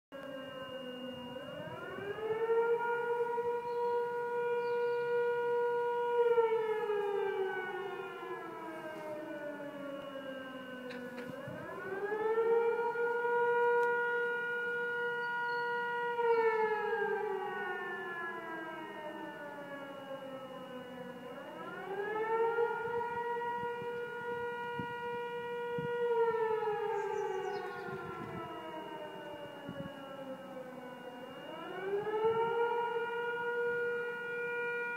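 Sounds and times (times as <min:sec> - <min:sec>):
siren wailing: 0:00.1 - 0:34.9.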